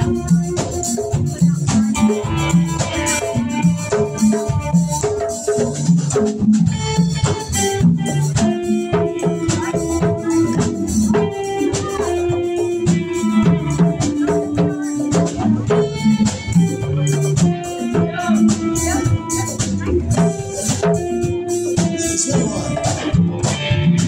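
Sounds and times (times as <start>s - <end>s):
congas: 0.0s - 24.0s
drum kit: 0.0s - 24.0s
electric guitar: 0.0s - 24.0s.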